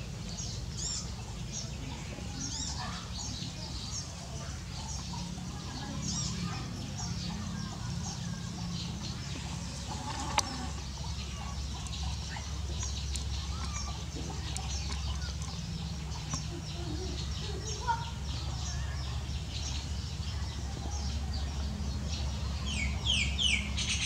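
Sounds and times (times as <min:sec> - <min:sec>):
small birds chirping: 0:00.0 - 0:24.0
steady low rumble: 0:03.5 - 0:23.9.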